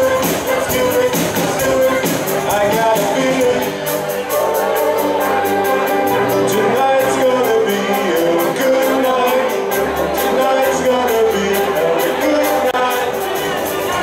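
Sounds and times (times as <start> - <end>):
brass and woodwinds playing: 0.0 - 14.0
steady cymbal beat: 0.0 - 14.0.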